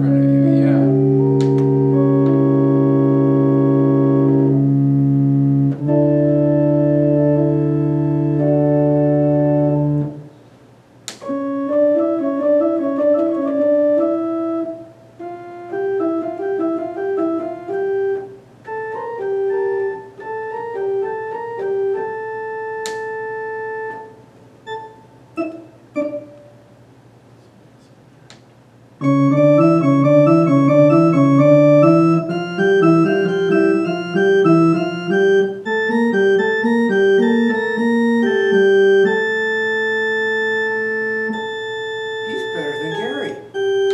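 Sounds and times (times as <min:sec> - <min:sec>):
electronic organ playing: 0:00.0 - 0:10.3, 0:11.1 - 0:26.9, 0:29.0 - 0:43.9
organ pedal bass: 0:00.0 - 0:26.7, 0:29.0 - 0:43.9.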